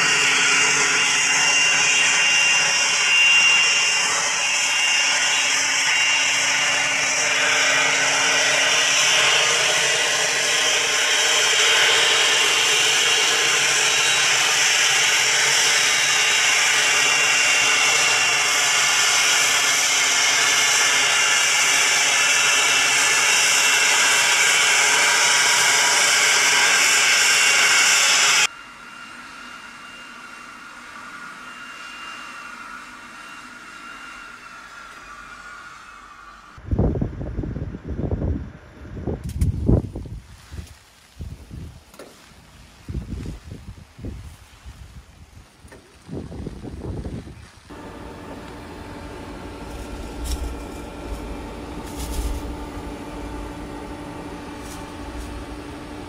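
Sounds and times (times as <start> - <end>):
jet engines hissing and whining: 0.0 - 39.4, 45.7 - 56.0.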